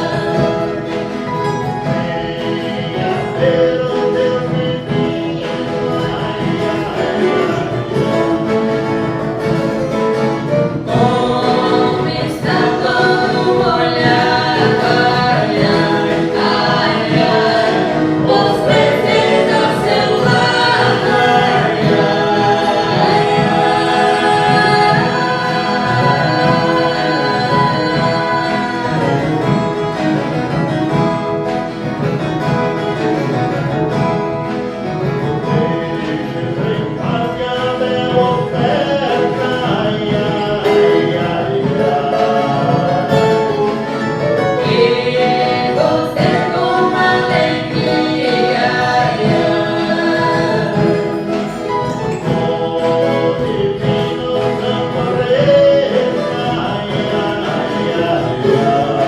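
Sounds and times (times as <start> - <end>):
choir singing: 0.0 - 59.0
guitars playing: 0.0 - 59.0.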